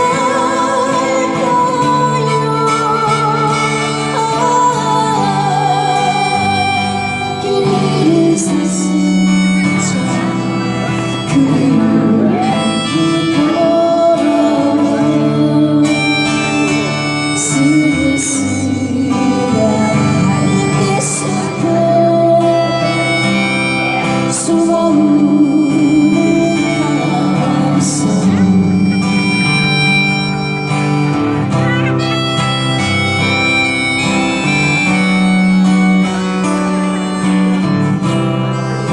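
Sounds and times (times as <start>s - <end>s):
acoustic guitar: 0.0s - 38.9s
harmonica: 0.0s - 38.9s.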